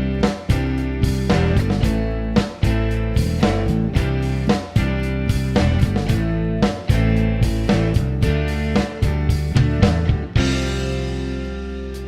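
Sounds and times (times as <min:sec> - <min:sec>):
guitar chords: 0:00.0 - 0:12.0
low bass line: 0:00.0 - 0:12.0
sharp drum beats: 0:00.0 - 0:12.0.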